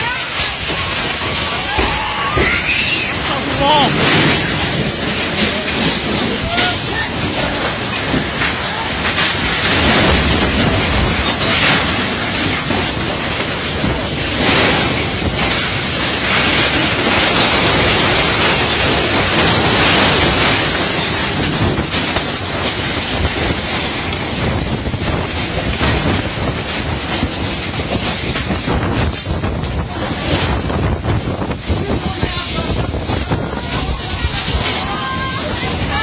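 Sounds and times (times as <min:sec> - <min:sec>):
strong wind gusting: 0:00.0 - 0:36.0.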